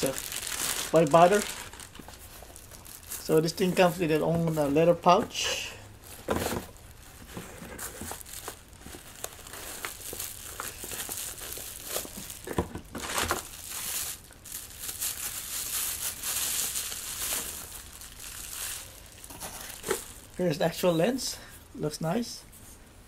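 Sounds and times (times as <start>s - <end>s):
bubble wrap crinkling: 0.0s - 21.2s.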